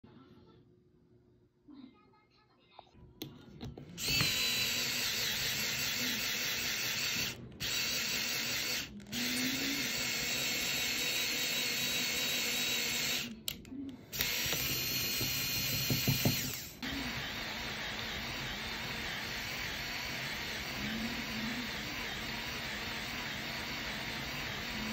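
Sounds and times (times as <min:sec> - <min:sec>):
power drill drilling metal: 0:04.0 - 0:13.4, 0:14.1 - 0:24.9.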